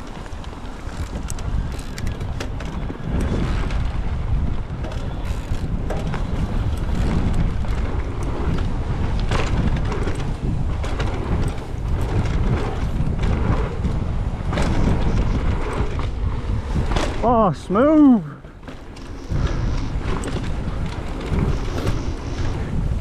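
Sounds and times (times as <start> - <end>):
bike rattling clicks and knocks: 0.0 - 23.0
wind buffeting microphone: 0.0 - 23.0.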